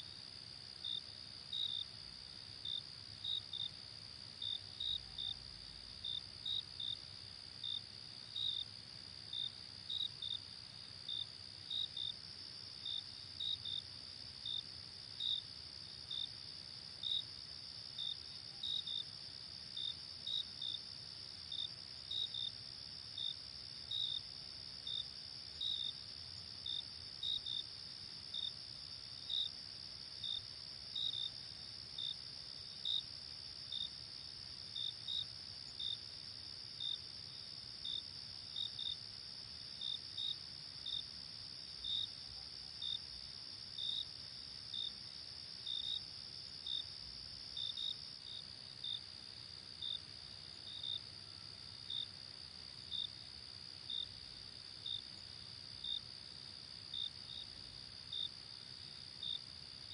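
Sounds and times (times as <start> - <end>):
insects chirping: 4.4 - 59.9.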